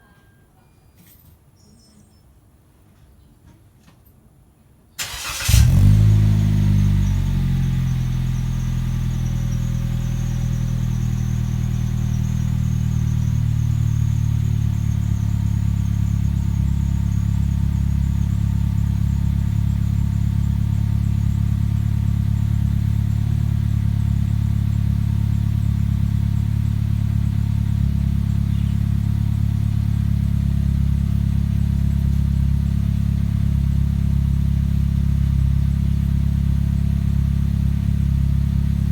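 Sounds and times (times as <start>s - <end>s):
car engine starting and idling: 5.0s - 38.9s.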